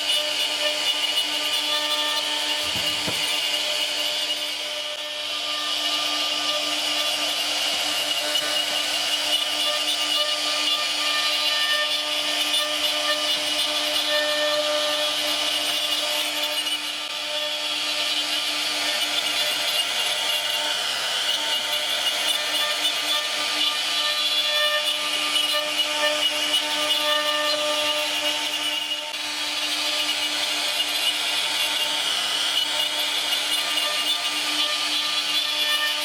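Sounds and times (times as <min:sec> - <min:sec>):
router bit cutting wood: 0:00.0 - 0:36.0
router spindle whine: 0:00.0 - 0:36.0.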